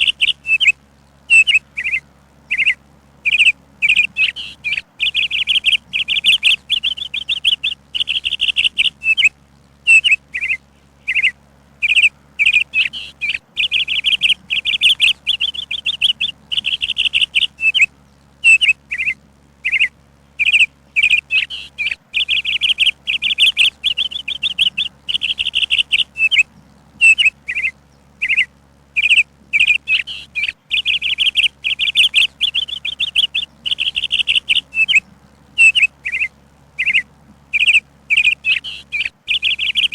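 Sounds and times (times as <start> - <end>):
bird chirping and singing: 0.0 - 0.7, 1.3 - 9.3, 9.9 - 39.9.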